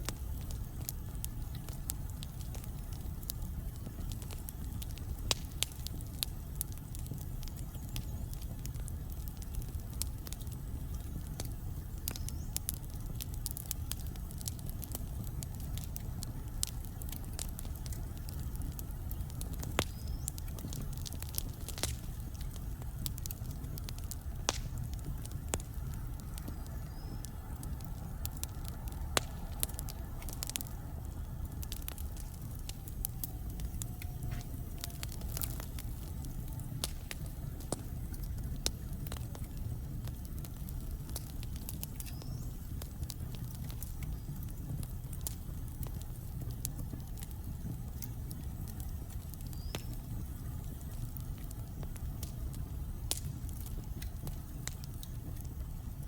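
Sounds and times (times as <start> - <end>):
low rumble of fire: 0.0 - 56.0
wood fire crackling and popping: 0.0 - 56.0.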